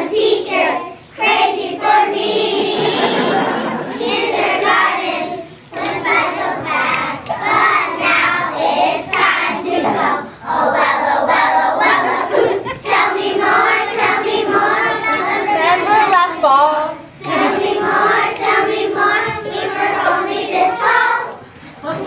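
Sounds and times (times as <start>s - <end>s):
children singing as a choir: 0.0s - 16.2s, 17.2s - 21.5s.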